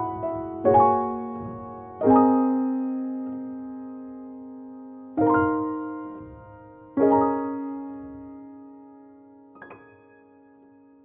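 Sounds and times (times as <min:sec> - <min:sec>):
slow solo piano chords: 0:00.0 - 0:11.0.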